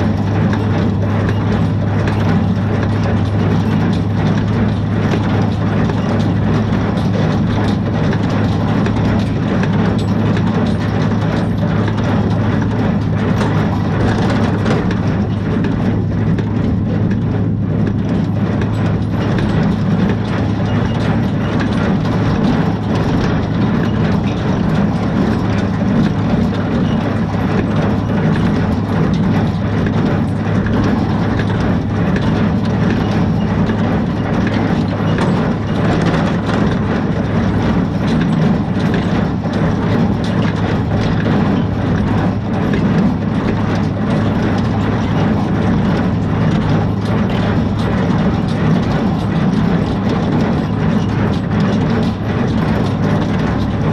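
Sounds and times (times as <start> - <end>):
baler mechanical clatter: 0.0 - 53.9
tractor engine running: 0.0 - 53.9.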